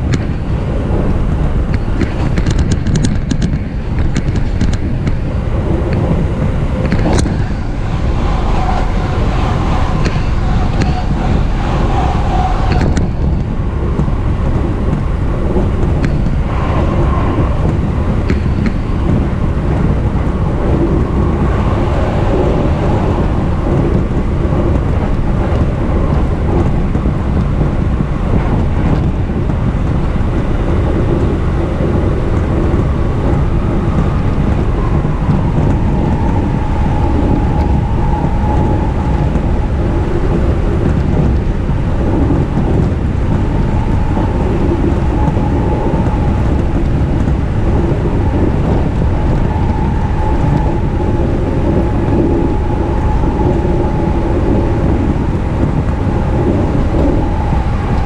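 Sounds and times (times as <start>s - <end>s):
faint train whine: 0.0s - 58.0s
train wheels rumbling on rails: 0.0s - 58.0s.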